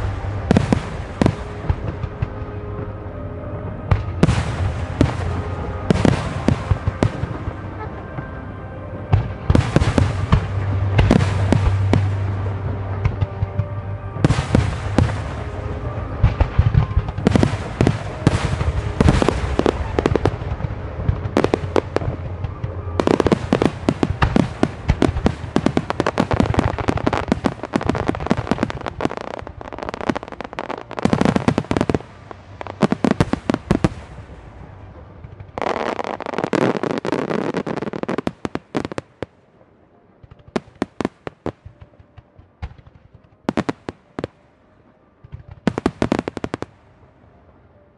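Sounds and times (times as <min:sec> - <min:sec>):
fireworks bangs and crackle: 0:00.0 - 0:03.0, 0:03.8 - 0:08.4, 0:09.1 - 0:39.4, 0:40.2 - 0:44.4, 0:45.2 - 0:46.8.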